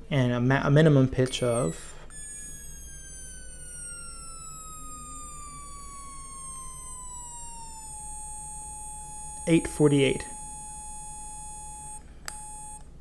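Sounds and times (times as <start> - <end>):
electronic tone gliding down: 1.4 - 12.8.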